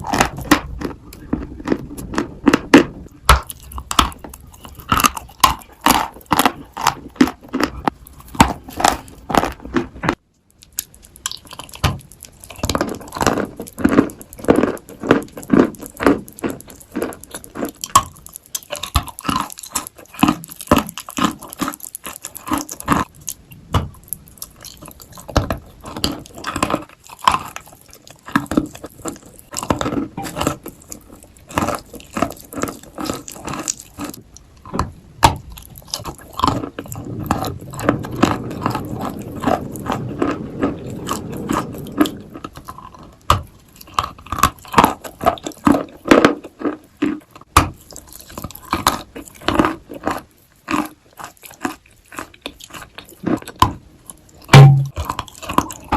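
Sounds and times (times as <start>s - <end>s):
person chewing clay crunchily: 0.0s - 55.9s.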